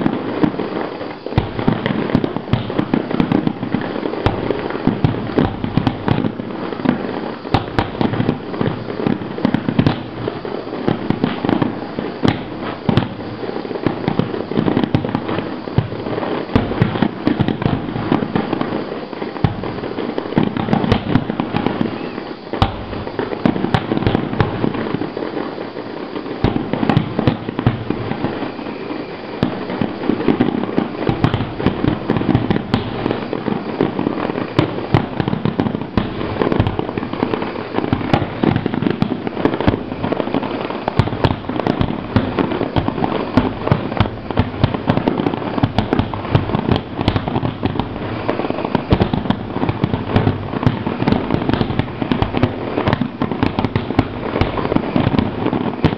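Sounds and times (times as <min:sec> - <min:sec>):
fireworks bursting and crackling: 0:00.0 - 0:55.9.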